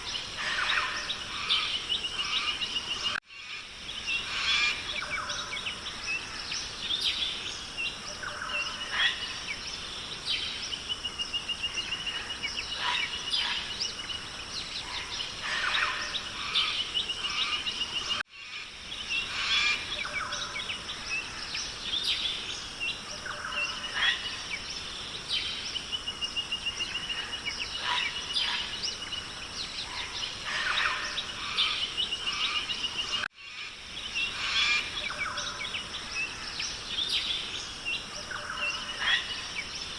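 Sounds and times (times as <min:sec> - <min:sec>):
birds calling and trilling: 0:00.0 - 0:39.9
high insect drone: 0:00.0 - 0:39.9.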